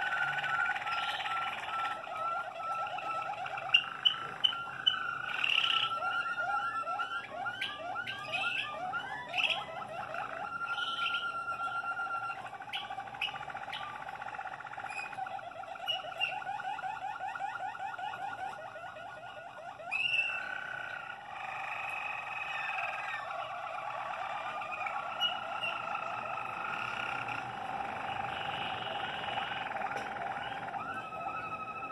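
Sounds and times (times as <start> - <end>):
canaries singing rolling trills: 0.0 - 31.9.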